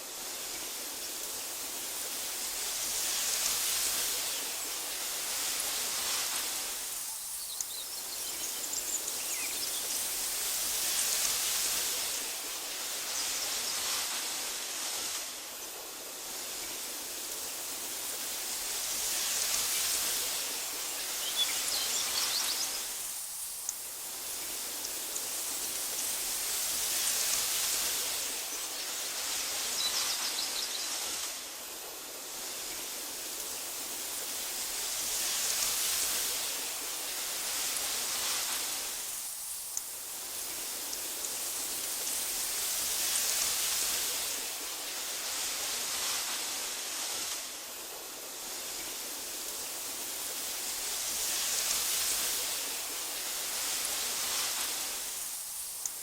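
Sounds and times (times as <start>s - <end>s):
wind hissing through grass: 0.0s - 56.0s.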